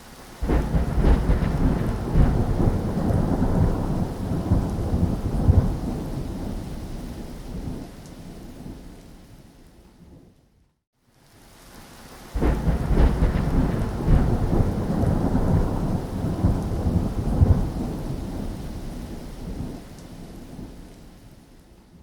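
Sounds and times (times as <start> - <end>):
rain hissing: 0.0 - 9.3, 11.1 - 21.9
thunder crack and rumble: 0.4 - 9.0, 12.3 - 21.4.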